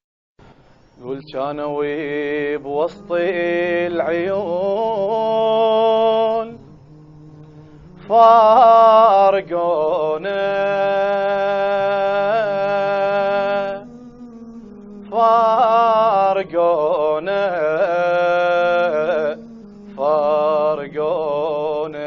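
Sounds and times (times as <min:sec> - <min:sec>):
man singing a lament: 0:01.0 - 0:06.6, 0:08.0 - 0:14.0, 0:14.7 - 0:22.0
low steady drone: 0:01.0 - 0:22.0.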